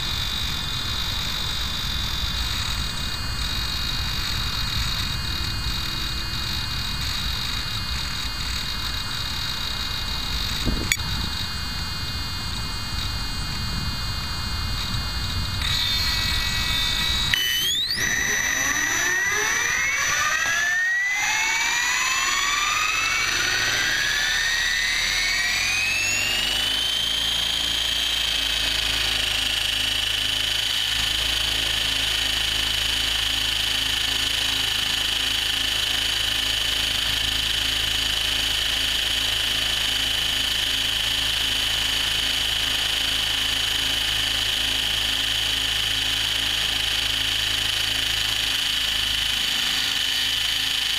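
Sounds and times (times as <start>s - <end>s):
electric helicopter motor whine: 0.0s - 50.9s.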